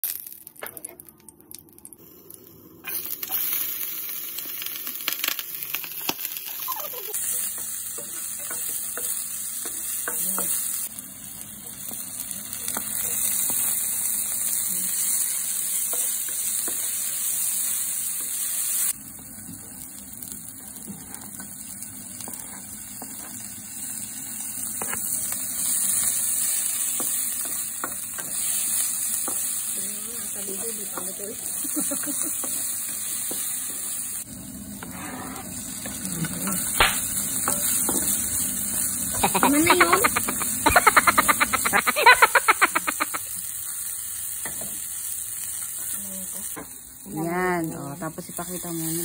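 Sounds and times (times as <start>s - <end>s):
ginger and onion sizzling in oil: 0.0s - 49.0s.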